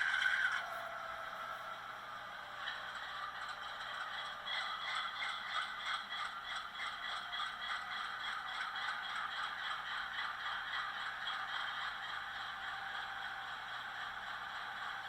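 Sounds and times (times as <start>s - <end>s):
thin diesel engine chug from speaker: 0.0s - 15.0s.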